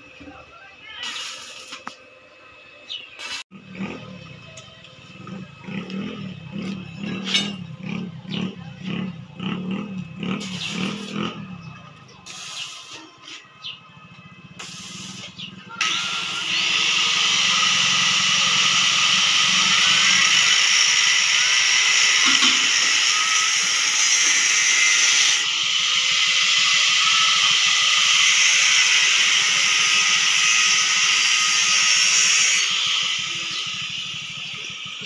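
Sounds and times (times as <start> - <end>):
angle grinder cutting steel pipe: 1.0 - 2.0, 3.2 - 11.5, 12.2 - 13.4, 14.6 - 35.0.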